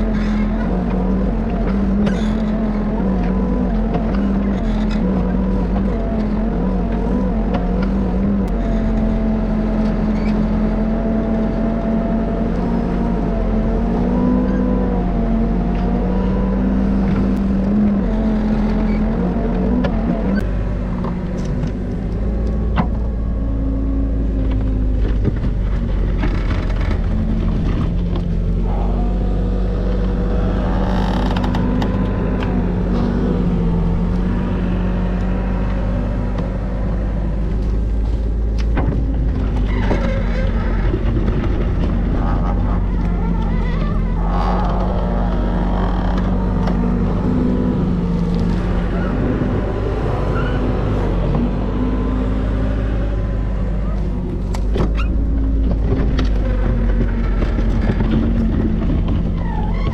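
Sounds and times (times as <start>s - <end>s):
backhoe engine running: 0.0s - 59.9s.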